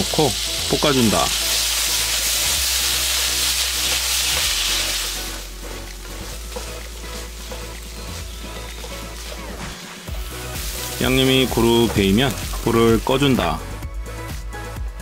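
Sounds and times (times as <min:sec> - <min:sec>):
food sizzling in a frying pan: 0:00.0 - 0:13.6.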